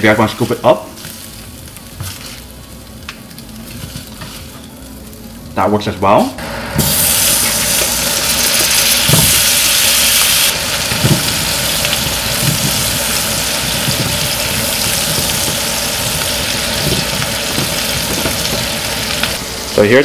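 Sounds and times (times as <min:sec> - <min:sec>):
sprouts sizzling in frying pan: 0:00.2 - 0:05.1, 0:06.8 - 0:19.9.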